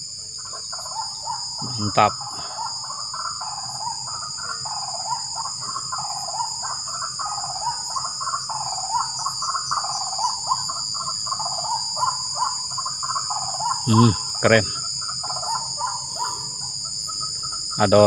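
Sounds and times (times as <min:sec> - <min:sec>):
crickets droning: 0:00.0 - 0:18.0
waterhens calling: 0:00.0 - 0:18.0.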